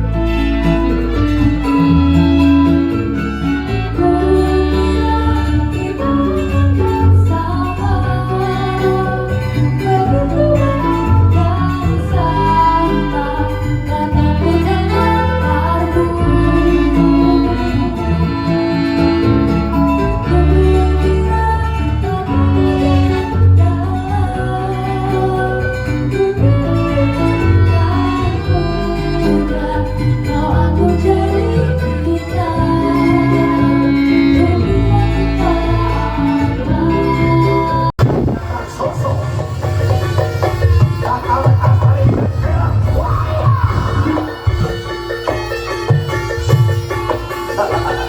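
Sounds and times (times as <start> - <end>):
bass line: 0.0 - 48.0
person singing: 0.0 - 48.0
plucked and bowed strings: 0.0 - 48.0.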